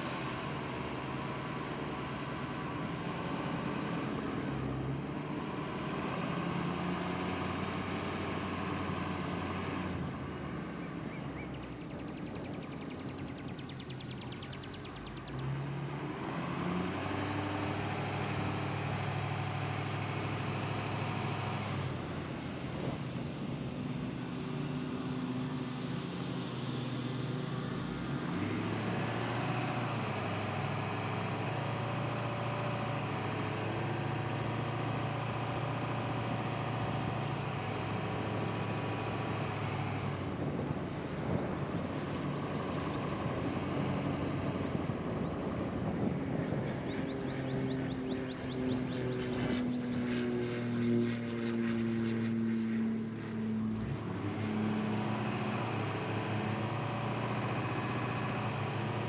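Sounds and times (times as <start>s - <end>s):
car engine hum: 0.0s - 59.0s.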